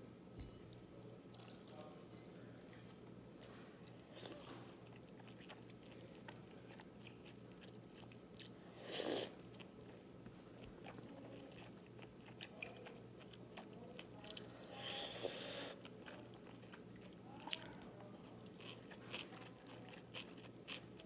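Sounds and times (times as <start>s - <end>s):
faint steady hum: 0.0s - 21.0s
quiet chewing with mouth clicks: 0.7s - 21.0s.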